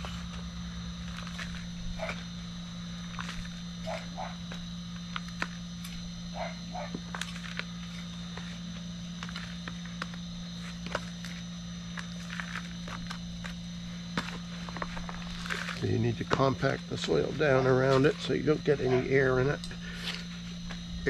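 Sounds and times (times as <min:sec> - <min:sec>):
faint high whine: 0:00.0 - 0:21.0
steady low hum: 0:00.0 - 0:21.0.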